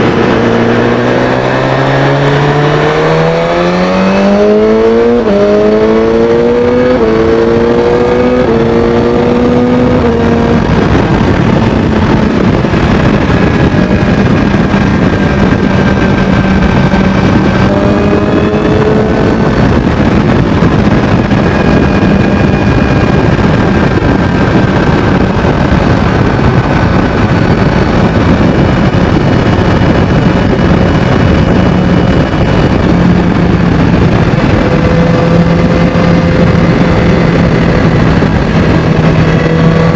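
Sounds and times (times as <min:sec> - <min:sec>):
motorcycle engine accelerating: 0:00.0 - 0:39.9
rush of wind noise: 0:00.0 - 0:39.9.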